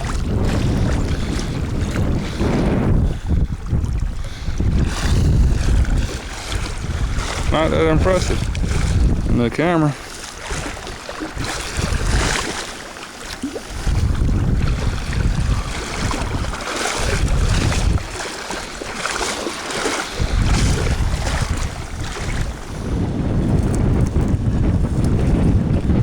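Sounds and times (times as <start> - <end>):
wind buffeting microphone: 0.0 - 12.8, 13.4 - 26.0
water splashing: 0.0 - 26.0.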